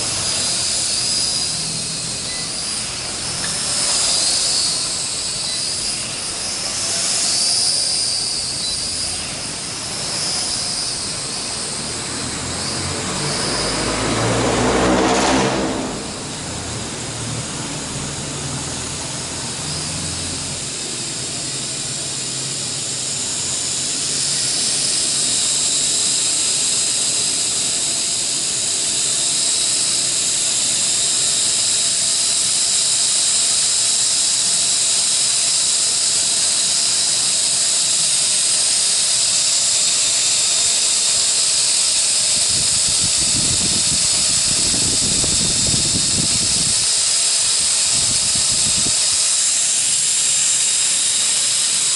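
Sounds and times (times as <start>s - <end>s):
quadcopter motors whining: 0.0s - 51.9s.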